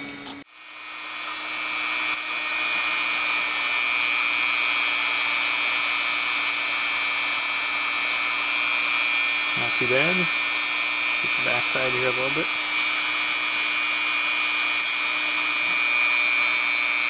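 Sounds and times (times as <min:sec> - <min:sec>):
rotary tool high-pitched whine: 0:00.0 - 0:17.0.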